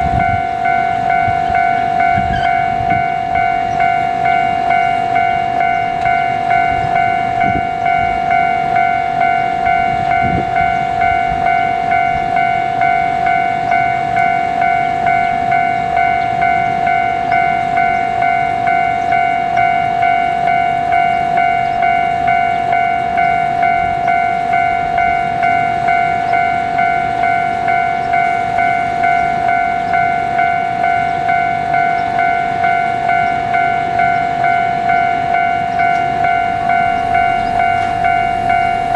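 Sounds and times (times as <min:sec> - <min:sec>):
level crossing warning bell: 0:00.0 - 0:38.9.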